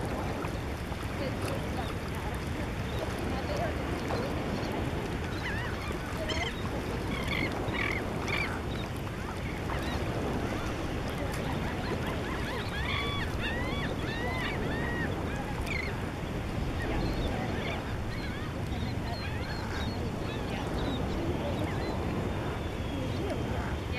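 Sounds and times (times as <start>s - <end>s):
surf: 0.0s - 23.9s
wind: 0.0s - 23.9s
birds chirping: 1.6s - 23.9s.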